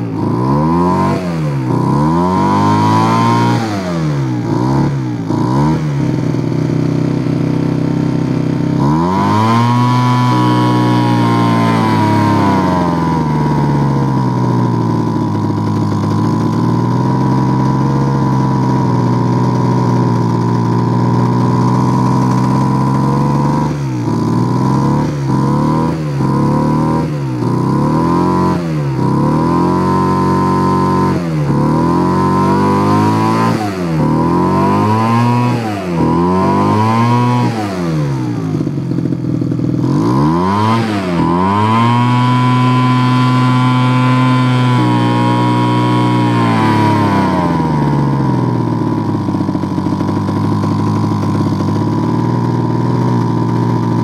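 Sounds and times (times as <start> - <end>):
small blower engine bogging and revving: 0.0 - 54.0.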